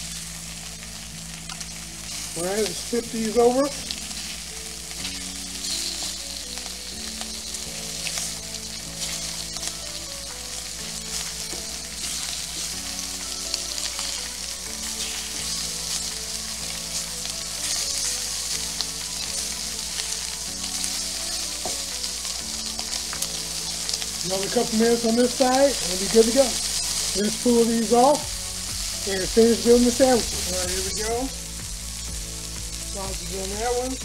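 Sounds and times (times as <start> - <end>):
sausages sizzling in a skillet: 0.0 - 34.0.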